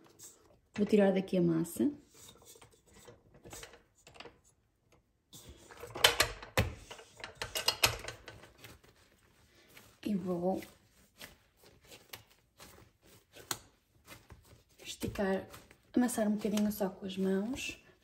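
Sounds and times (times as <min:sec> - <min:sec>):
dough set on stone worktop: 0:00.0 - 0:17.8.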